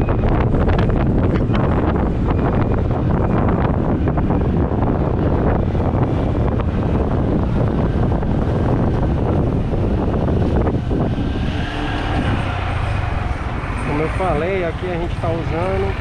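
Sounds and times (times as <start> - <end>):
motorcycle engine: 0.0 - 16.0
road noise: 0.0 - 16.0
wind buffeting microphone: 0.0 - 16.0.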